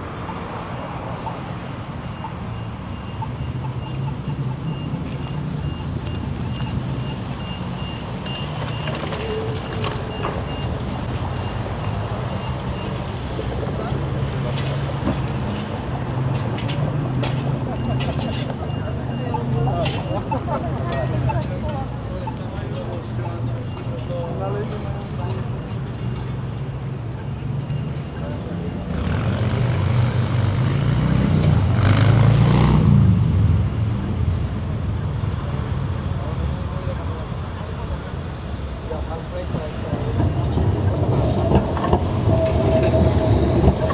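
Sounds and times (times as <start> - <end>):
city traffic rumble: 0.0 - 43.9.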